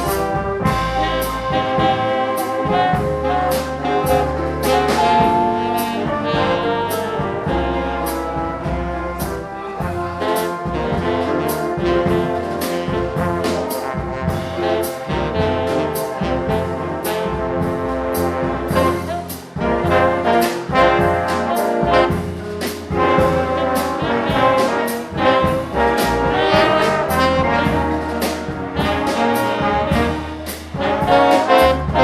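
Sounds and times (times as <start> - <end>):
big band playing swing: 0.0 - 32.0
brass section holding chords: 0.0 - 32.0
drum beat with cymbal hits: 0.0 - 32.0.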